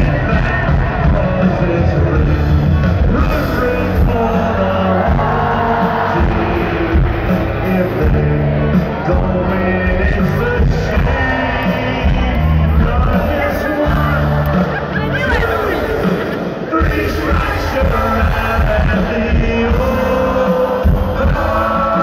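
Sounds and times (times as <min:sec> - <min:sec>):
live country band playing: 0:00.0 - 0:22.0
people singing: 0:00.0 - 0:22.0
stadium crowd: 0:00.0 - 0:22.0.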